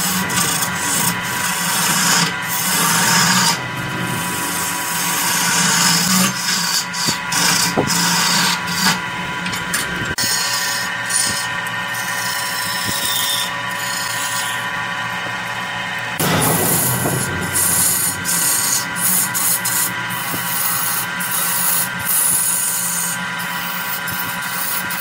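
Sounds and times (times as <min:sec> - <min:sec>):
wood lathe whining: 0:00.0 - 0:25.0.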